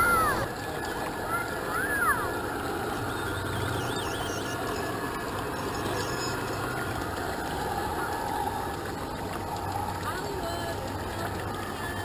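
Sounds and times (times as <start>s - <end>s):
model train rolling on wooden trestle: 0.0s - 12.0s
stream trickling over rocks: 0.0s - 12.0s.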